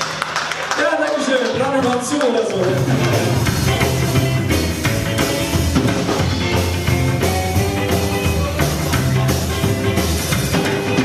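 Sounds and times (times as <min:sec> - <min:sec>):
live rock band instrumental: 0:01.5 - 0:11.0.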